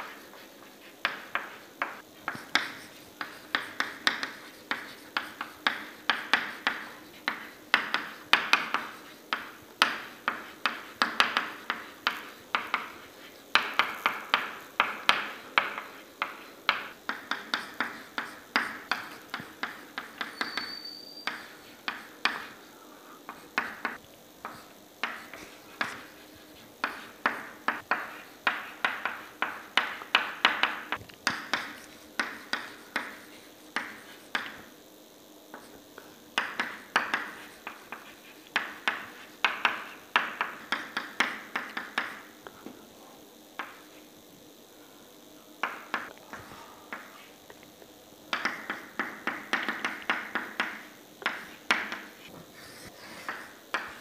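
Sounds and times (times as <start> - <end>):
chalk tapping on chalkboard: 0.0 - 34.7, 35.5 - 42.3, 43.6 - 43.8, 45.6 - 47.2, 48.3 - 54.0.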